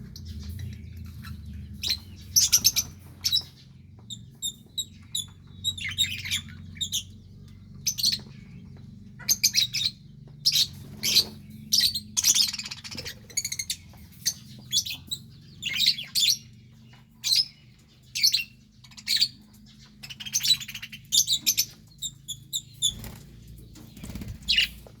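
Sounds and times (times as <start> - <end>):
budgerigars chirping and chattering: 0.0 - 25.0.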